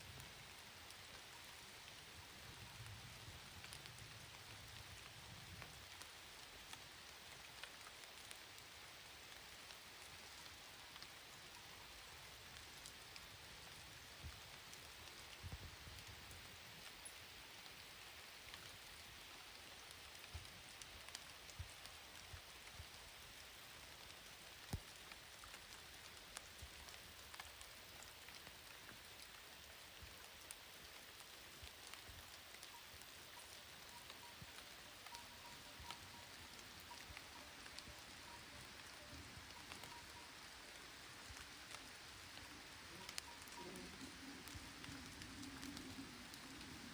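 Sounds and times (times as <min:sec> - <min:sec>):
rain hissing: 0:00.0 - 0:46.9
raindrops ticking: 0:00.0 - 0:46.9.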